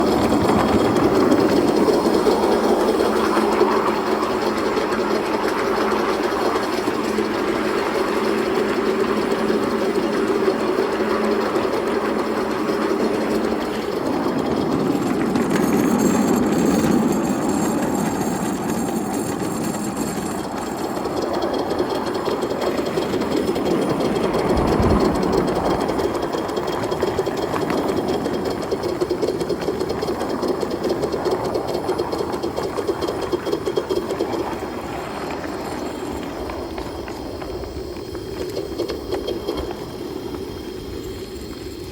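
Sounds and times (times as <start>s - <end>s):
model steam train running: 0.0s - 41.9s.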